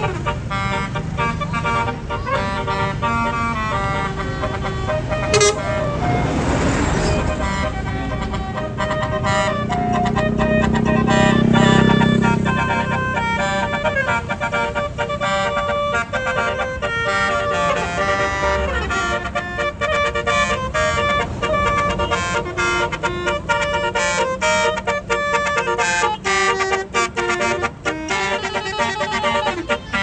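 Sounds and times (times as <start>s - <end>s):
bus engine rumbling: 0.0s - 30.0s
bus horn playing a melody: 0.0s - 30.0s.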